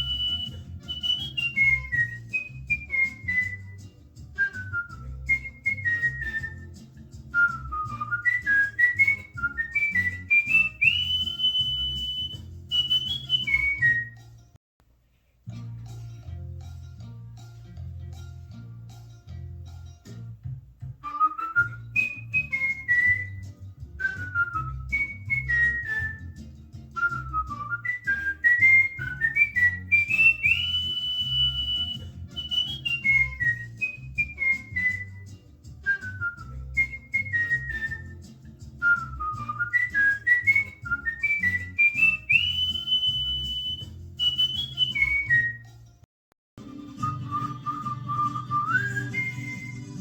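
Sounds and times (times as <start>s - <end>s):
cockatiel whistling a tune: 0.0s - 14.2s, 21.0s - 45.7s, 47.0s - 50.0s
backing track with bass beat: 0.0s - 45.9s.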